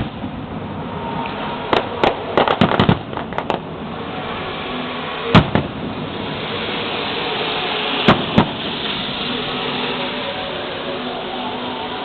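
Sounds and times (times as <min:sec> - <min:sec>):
fireworks bangs: 0:00.0 - 0:11.7
fireworks crackling hiss: 0:00.0 - 0:12.0.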